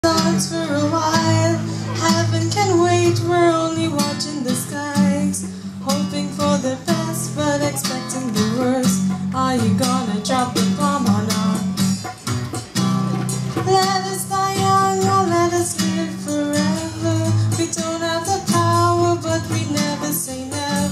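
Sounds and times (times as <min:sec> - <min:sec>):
woman singing: 0:00.0 - 0:12.0, 0:13.6 - 0:20.9
guitar accompaniment: 0:00.0 - 0:20.9.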